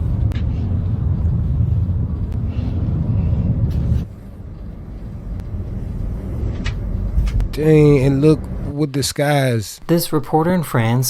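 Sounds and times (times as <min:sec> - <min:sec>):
car driving rumble: 0:00.0 - 0:10.4
road and wind noise: 0:00.0 - 0:11.0.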